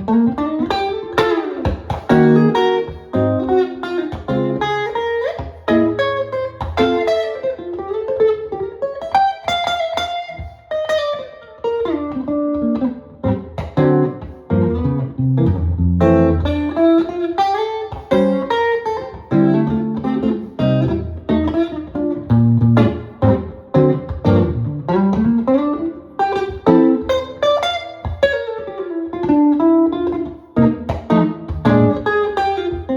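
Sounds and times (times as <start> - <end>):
jazz guitar playing: 0.0 - 32.9.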